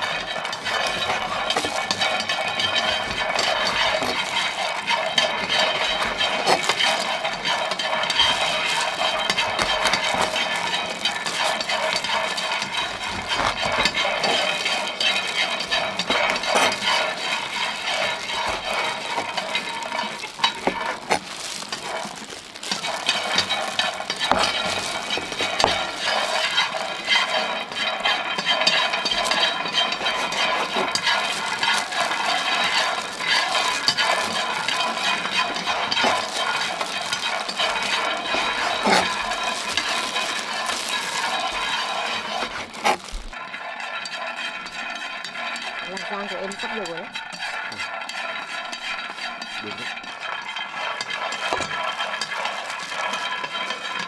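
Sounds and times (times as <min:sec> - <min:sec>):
peanuts rattling in a pan: 0:00.0 - 0:54.0.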